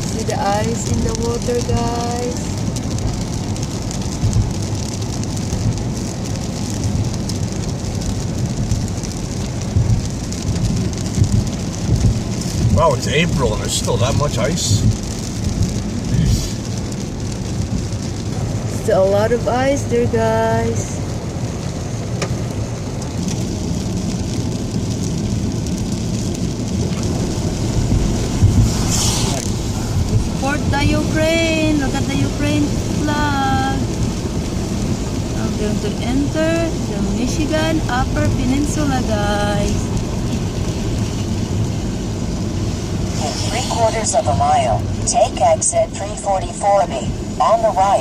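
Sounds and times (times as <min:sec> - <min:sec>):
hiss of rain and spray: 0:00.0 - 0:48.0
road and tyre rumble: 0:00.0 - 0:48.0.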